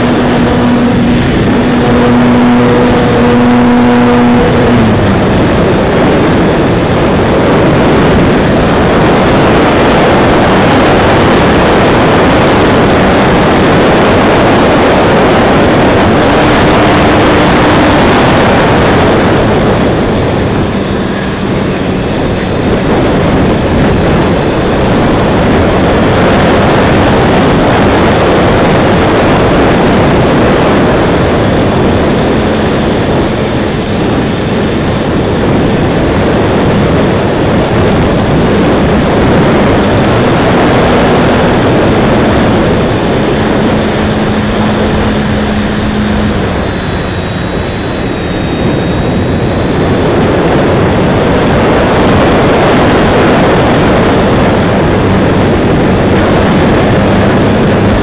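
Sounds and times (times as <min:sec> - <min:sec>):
electric motor and propeller: 0:00.0 - 0:58.0
rush of airflow over microphone: 0:00.0 - 0:58.0.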